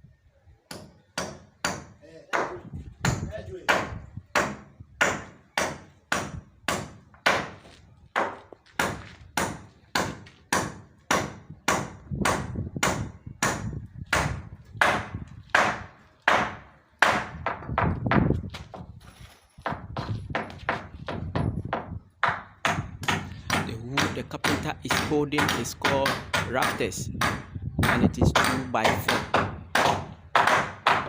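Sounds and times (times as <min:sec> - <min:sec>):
hammer striking wood: 0:00.7 - 0:07.6, 0:08.2 - 0:18.2, 0:19.6 - 0:31.0.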